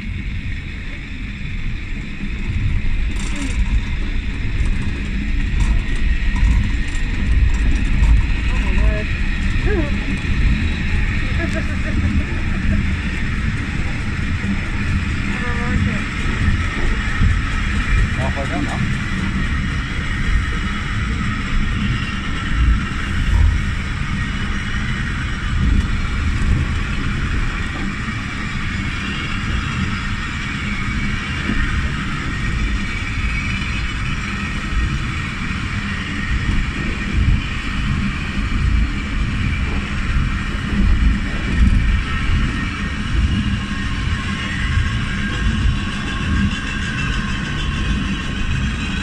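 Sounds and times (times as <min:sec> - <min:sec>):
funicular car rumbling down track: 0:00.0 - 0:49.0.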